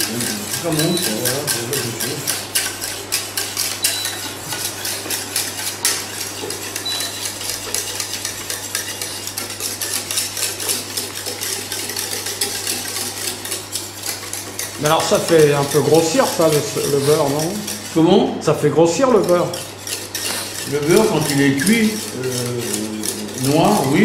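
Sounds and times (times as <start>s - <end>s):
whisk clicking against a pan: 0.0s - 18.0s, 19.0s - 24.0s.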